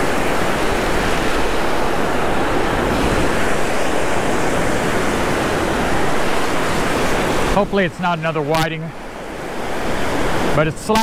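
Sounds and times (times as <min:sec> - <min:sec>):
wind buffeting microphone: 0:00.0 - 0:10.6
breaking surf rushing: 0:00.0 - 0:11.0.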